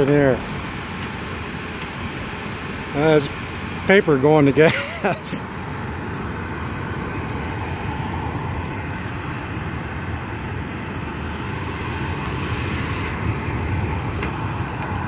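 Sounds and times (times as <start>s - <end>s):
forced air and fire rushing: 0.0s - 15.0s.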